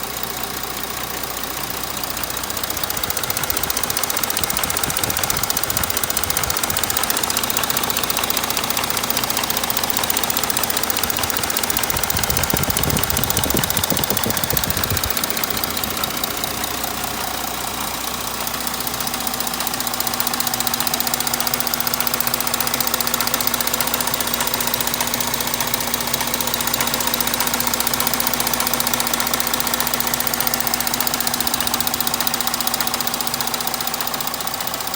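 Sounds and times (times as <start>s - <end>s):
diesel engine clattering: 0.0s - 34.9s.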